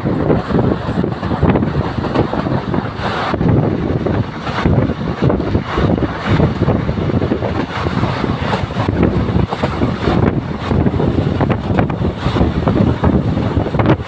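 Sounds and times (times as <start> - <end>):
train wheels rumbling and rattling: 0.0 - 14.0
wind buffeting the microphone: 0.0 - 14.0.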